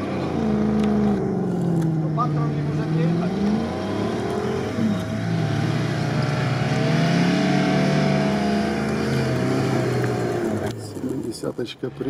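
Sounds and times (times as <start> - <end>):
off-road vehicle engines: 0.0 - 12.0.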